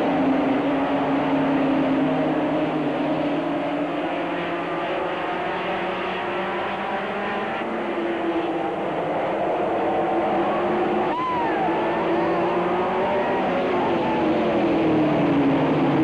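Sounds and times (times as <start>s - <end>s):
stock car engines racing: 0.0s - 16.0s.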